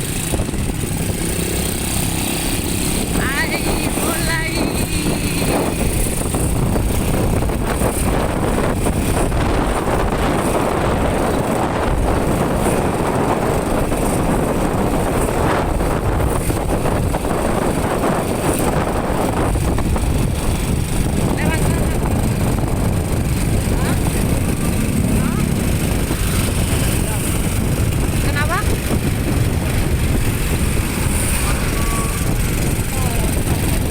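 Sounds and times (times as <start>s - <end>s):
motorcycle engine: 0.0s - 33.9s
wind on microphone: 0.0s - 33.9s.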